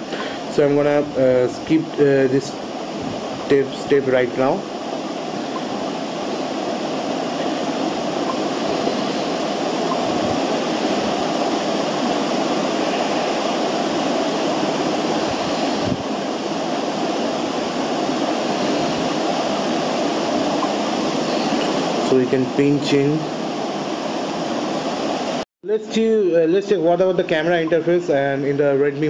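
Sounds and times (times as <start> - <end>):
steady rushing room noise: 0.0 - 29.0.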